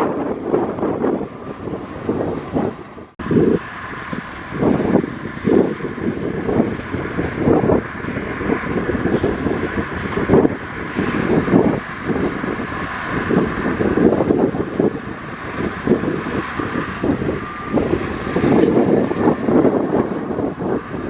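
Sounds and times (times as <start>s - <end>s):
diesel earthmoving machinery running: 0.0s - 21.0s
wind buffeting microphone: 0.0s - 21.0s.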